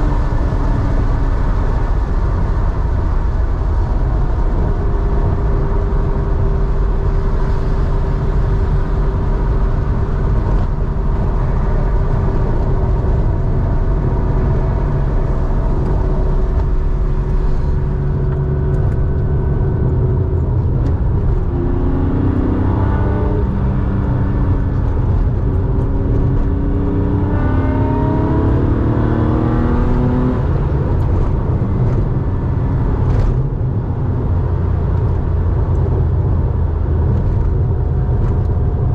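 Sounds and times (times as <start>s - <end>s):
car engine driving: 0.0s - 38.9s.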